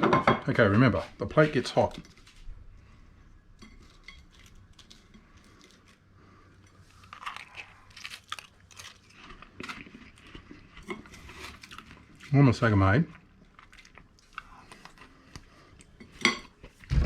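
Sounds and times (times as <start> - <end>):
meringue crunching and crackling: 1.2 - 17.0.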